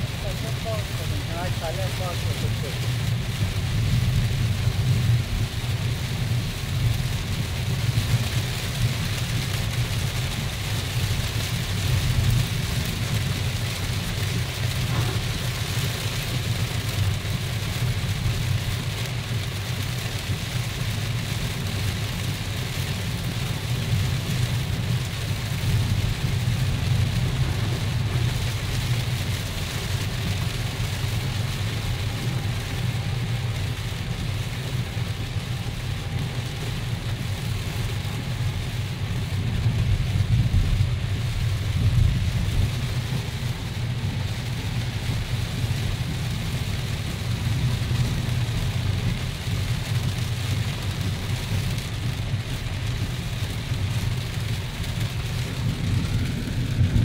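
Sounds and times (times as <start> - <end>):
car driving on wet road: 0.0 - 57.0
heavy rain on a car: 0.0 - 57.0.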